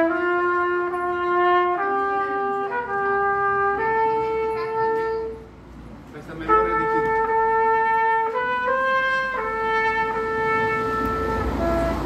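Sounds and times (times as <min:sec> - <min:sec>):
trumpet holding long notes: 0:00.0 - 0:05.5, 0:06.3 - 0:12.0.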